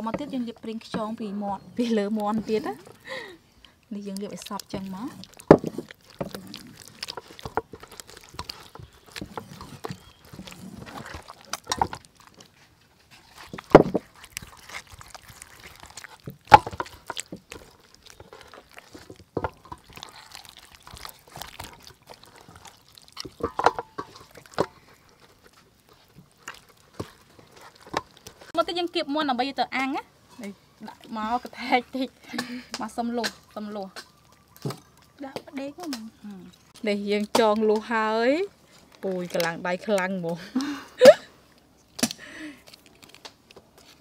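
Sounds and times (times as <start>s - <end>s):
wet squelching of raw chicken: 0.0s - 40.4s.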